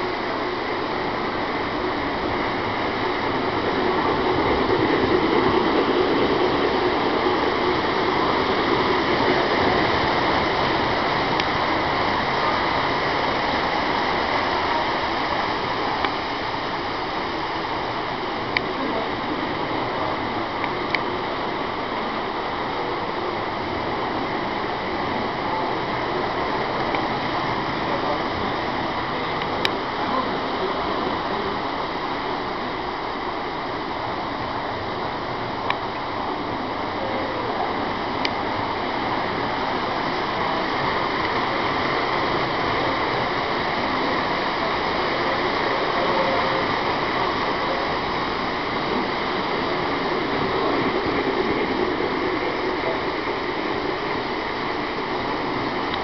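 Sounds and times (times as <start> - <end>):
model trains whirring: 0.0 - 56.0.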